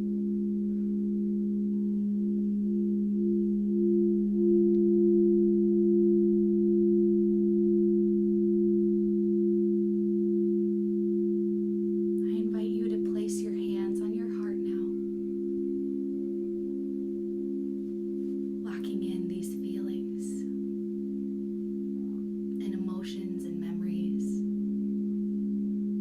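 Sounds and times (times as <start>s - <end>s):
singing bowls pulsing tones: 0.0s - 26.0s.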